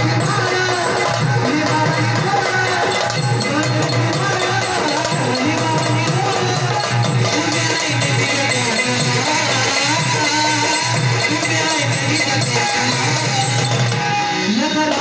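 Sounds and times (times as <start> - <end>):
hand drum rhythm: 0.0 - 15.0.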